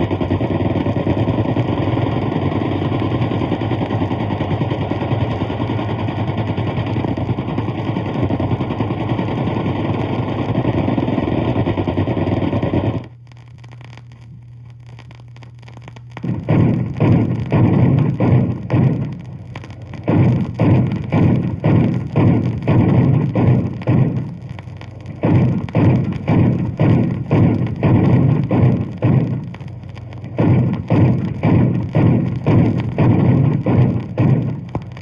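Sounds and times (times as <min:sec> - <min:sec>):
heavy gunfire bursts: 0:00.0 - 0:13.0, 0:16.2 - 0:35.0
machine-gun fire: 0:00.0 - 0:13.0, 0:16.2 - 0:35.0
record hum and surface noise: 0:00.0 - 0:35.0.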